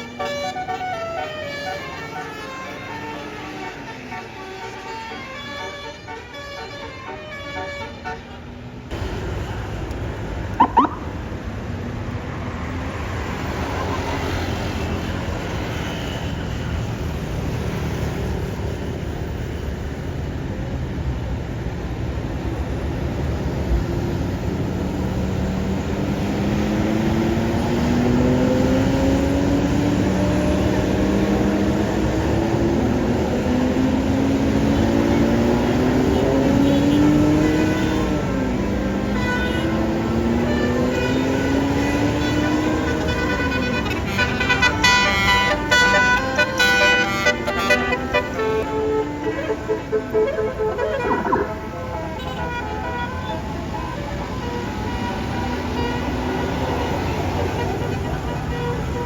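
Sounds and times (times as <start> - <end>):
road traffic noise: 0.0 - 59.0
large vehicle engine accelerating: 8.9 - 43.2, 44.0 - 57.6.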